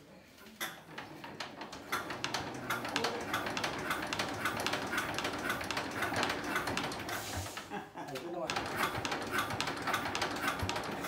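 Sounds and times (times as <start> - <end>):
small engine clattering: 0.8 - 7.8, 8.4 - 11.0.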